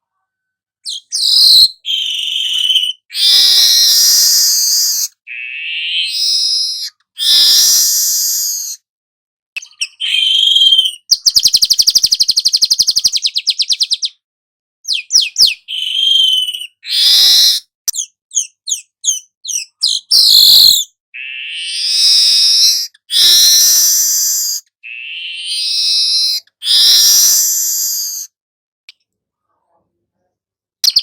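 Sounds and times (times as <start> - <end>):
weaver bird buzzy song: 0.9 - 8.8, 9.6 - 14.2, 14.9 - 28.3.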